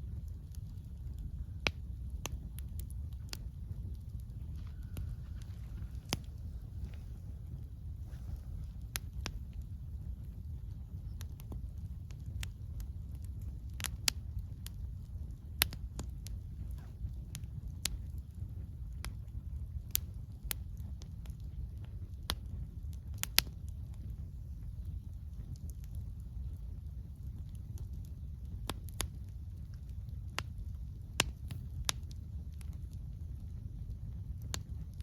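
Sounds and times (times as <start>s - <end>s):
campfire crackling and popping: 0.0s - 35.0s
soft wind rumble: 0.0s - 35.0s.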